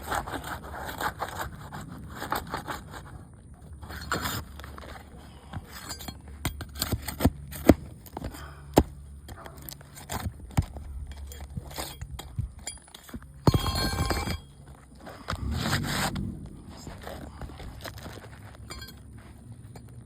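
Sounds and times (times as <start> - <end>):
rasping scrape: 0.0 - 20.0.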